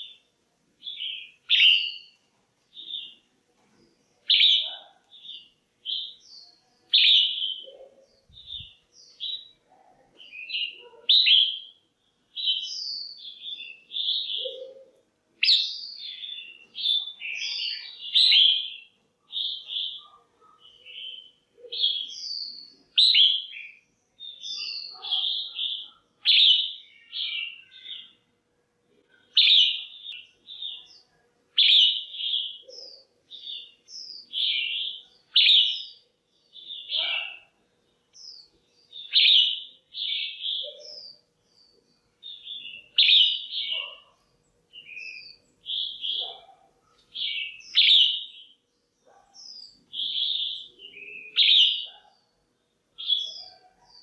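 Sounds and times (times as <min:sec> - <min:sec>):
bird chirping: 0:00.0 - 0:28.3, 0:29.0 - 0:54.0.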